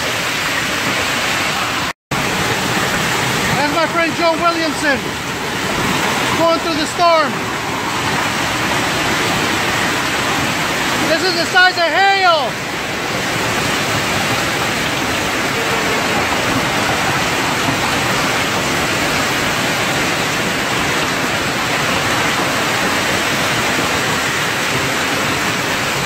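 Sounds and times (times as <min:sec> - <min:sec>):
hail and rain pelting down: 0:00.0 - 0:26.0.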